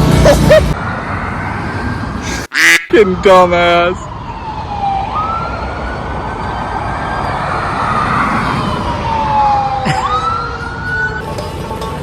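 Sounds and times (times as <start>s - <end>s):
siren wailing: 0.9s - 11.2s.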